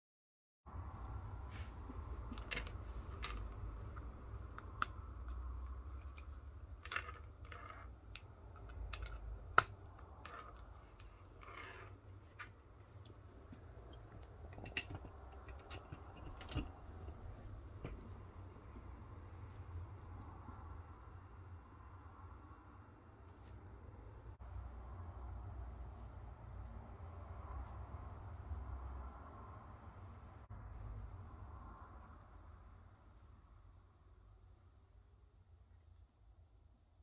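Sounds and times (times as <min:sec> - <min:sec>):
low room hum: 0:00.7 - 0:37.0.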